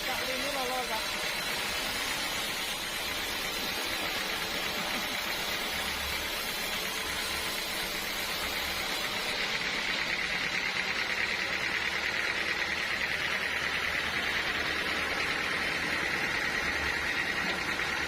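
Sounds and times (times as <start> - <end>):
sawmill saw whining: 0.0 - 18.0.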